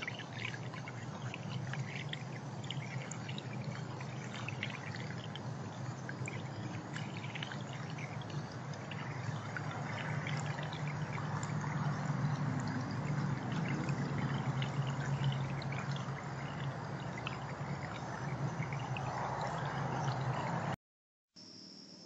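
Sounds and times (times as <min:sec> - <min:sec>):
water pouring and trickling: 0:00.0 - 0:20.8.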